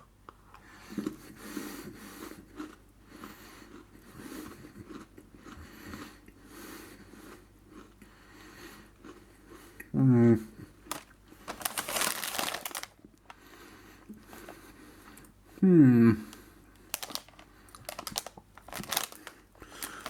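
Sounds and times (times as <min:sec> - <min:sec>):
person chewing cookie crunches: 0:00.3 - 0:15.5, 0:16.2 - 0:20.0.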